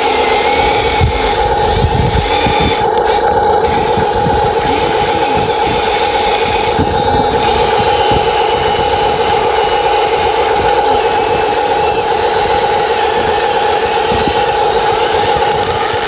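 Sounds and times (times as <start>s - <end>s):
model excavator motor humming: 0.0s - 16.0s.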